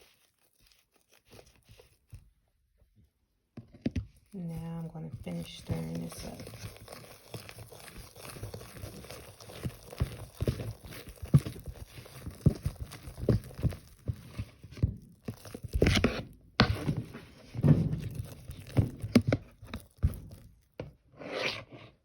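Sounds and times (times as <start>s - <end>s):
spatula squelching marshmallow: 0.0s - 2.6s, 4.3s - 21.4s.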